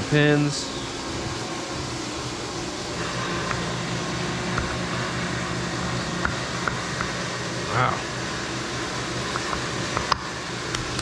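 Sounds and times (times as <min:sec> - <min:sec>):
machine shop equipment humming: 0:00.0 - 0:11.0.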